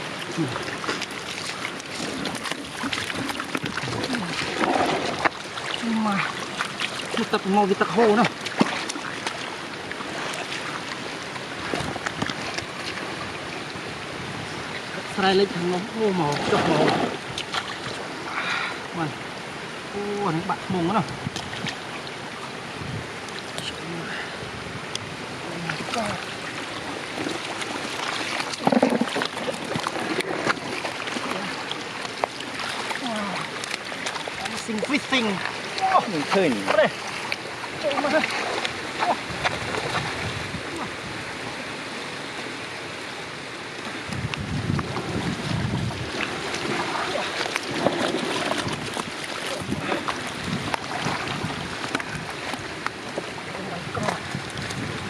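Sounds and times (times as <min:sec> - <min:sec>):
wind rumbling on microphone: 0:00.0 - 0:18.3, 0:19.9 - 0:31.5, 0:32.5 - 0:55.0
water splashing and sloshing: 0:00.0 - 0:55.0.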